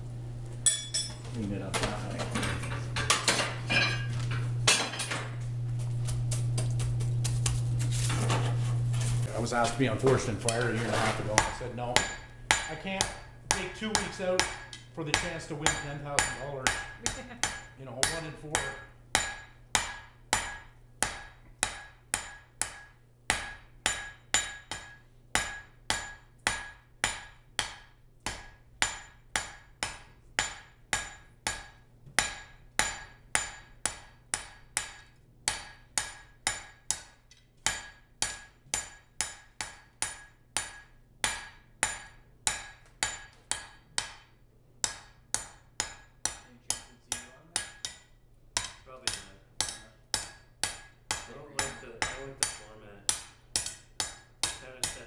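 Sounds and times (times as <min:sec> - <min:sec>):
hammer striking steel on anvil: 0:00.6 - 0:05.4, 0:09.6 - 0:55.0.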